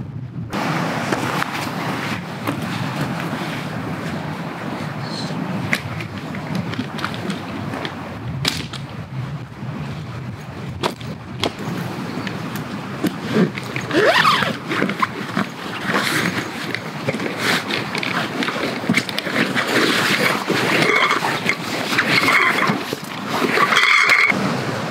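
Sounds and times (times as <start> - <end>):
strong wind through trees: 0.0 - 24.9.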